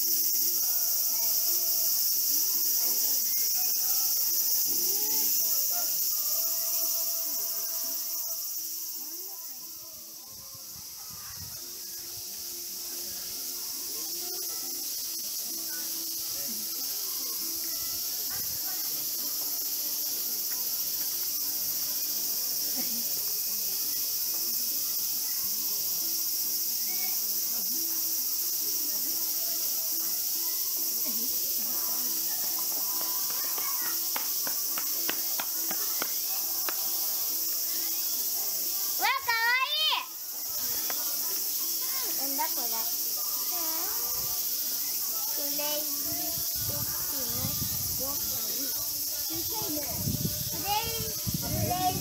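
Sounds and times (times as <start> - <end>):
faint distant voices: 0.0 - 52.0
high-pitched hiss: 0.0 - 52.0
high-pitched insect chorus: 0.0 - 52.0.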